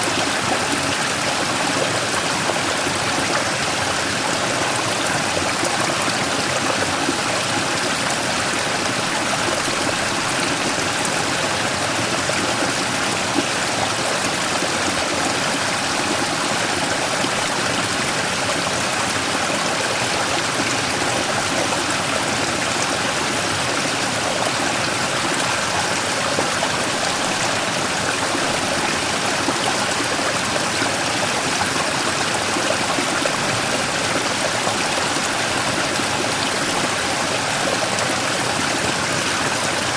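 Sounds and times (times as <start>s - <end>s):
stream rushing over rock: 0.0s - 39.9s.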